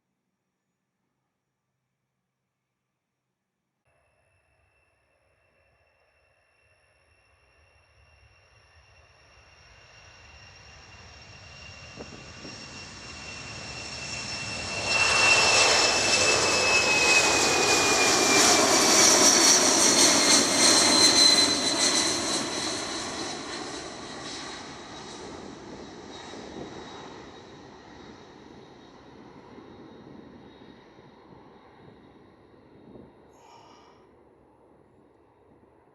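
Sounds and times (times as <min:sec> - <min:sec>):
jet aircraft roar with high whine: 0:05.5 - 0:35.9.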